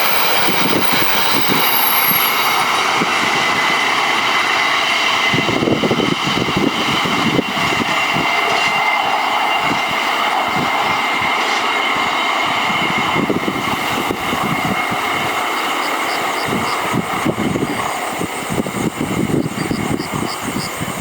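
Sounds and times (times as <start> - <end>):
high wheel squeal: 0.0 - 21.0
train wheels rumbling over rails: 0.0 - 21.0.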